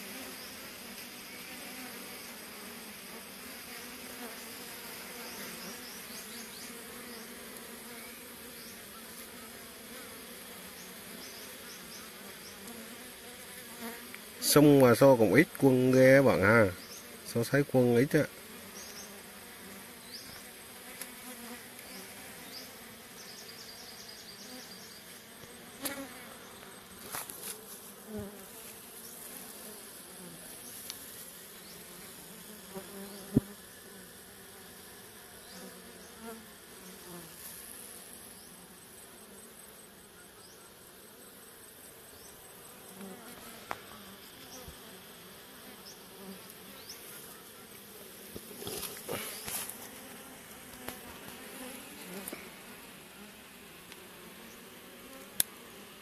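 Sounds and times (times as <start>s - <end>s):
bee swarm buzzing: 0.0s - 56.0s.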